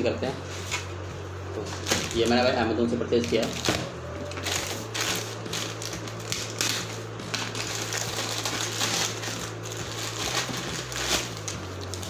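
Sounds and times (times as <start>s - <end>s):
steady low hum: 0.0s - 12.0s
plastic mailer tearing: 1.7s - 12.0s.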